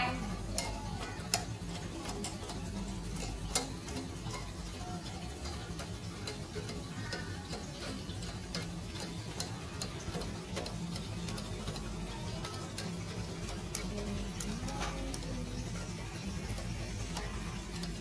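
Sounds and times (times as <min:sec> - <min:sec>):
metal strainer clicking: 0:00.0 - 0:18.0
soup boiling: 0:00.0 - 0:18.0.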